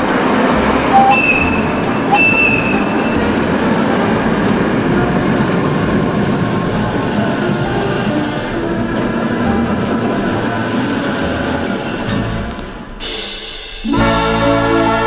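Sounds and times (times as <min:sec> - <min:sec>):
tram rumbling on rails: 0:00.0 - 0:15.0
tram squealing: 0:00.0 - 0:15.0.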